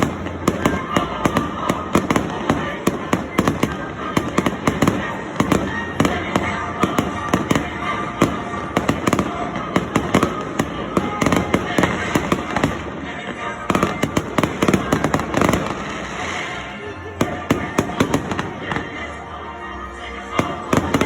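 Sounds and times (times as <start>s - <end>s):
fireworks bangs and crackles: 0.0s - 19.2s, 19.9s - 21.0s.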